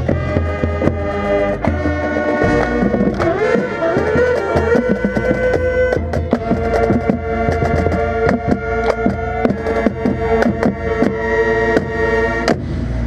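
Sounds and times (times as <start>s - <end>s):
drum hits: 0.0s - 12.8s
wind and brass chords: 0.0s - 13.0s.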